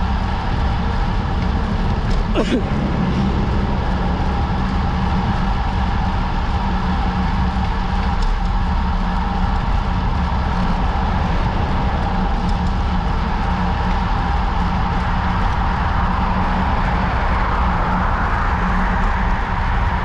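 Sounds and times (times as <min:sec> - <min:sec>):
bicycle tyres humming on asphalt: 0:00.0 - 0:20.0
wind rushing over microphone: 0:00.0 - 0:20.0.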